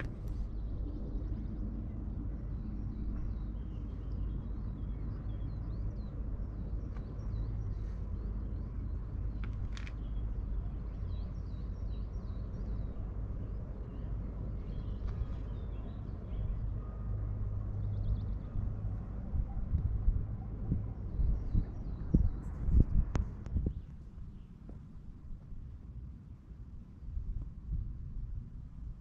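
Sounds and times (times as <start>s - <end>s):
wind rumbling on microphone: 0.0s - 29.0s.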